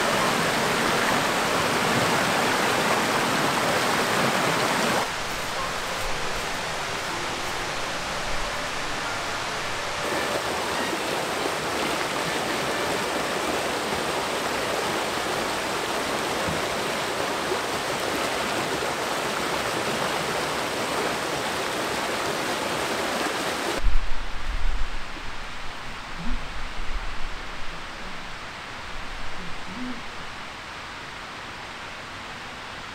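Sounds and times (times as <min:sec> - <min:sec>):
stream water rushing: 0:00.0 - 0:32.9.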